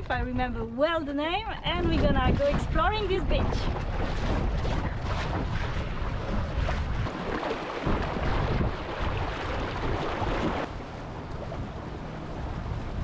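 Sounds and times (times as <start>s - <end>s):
wind buffeting microphone: 0.0s - 13.0s
water rushing along hull: 1.5s - 13.0s.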